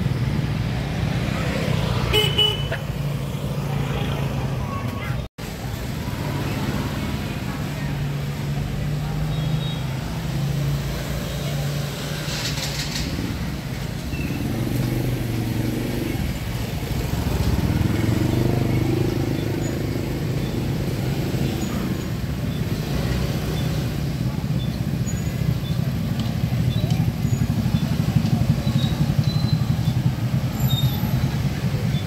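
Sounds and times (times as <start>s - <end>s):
motor scooters passing: 0.0s - 32.0s.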